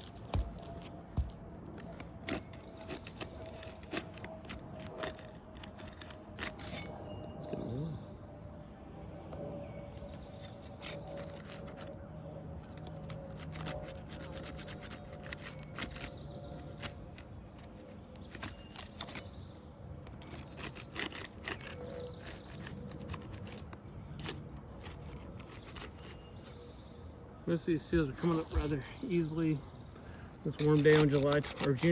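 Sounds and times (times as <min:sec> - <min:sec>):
shingle seals cracking: 0:00.0 - 0:07.0, 0:10.1 - 0:26.6, 0:28.0 - 0:29.4, 0:30.0 - 0:31.9.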